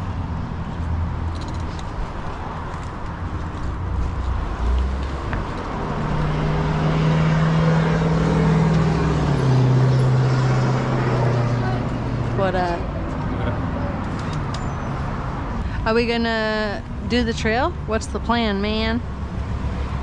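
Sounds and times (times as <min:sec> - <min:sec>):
rush of traffic: 0:00.0 - 0:20.0.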